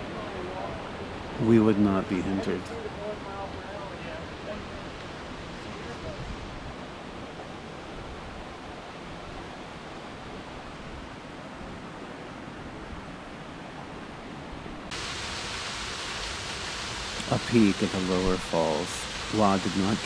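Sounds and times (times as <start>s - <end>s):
falling water rushing: 0.0s - 20.0s
stream water flowing: 0.0s - 20.0s.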